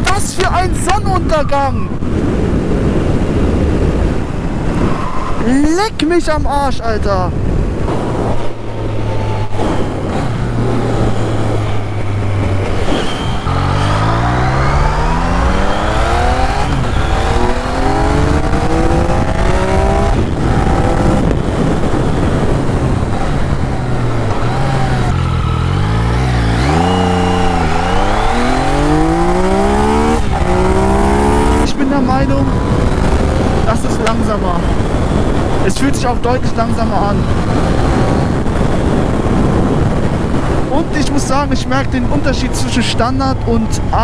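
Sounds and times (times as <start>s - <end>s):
motorcycle engine accelerating: 2.0s - 5.4s, 7.2s - 44.0s.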